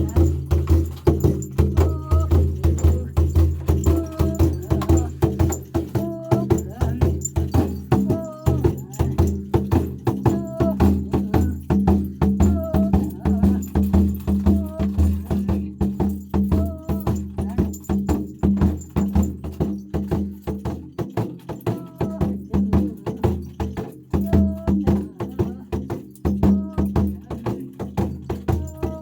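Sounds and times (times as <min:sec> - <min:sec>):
fast clicking percussion: 0:00.0 - 0:29.0.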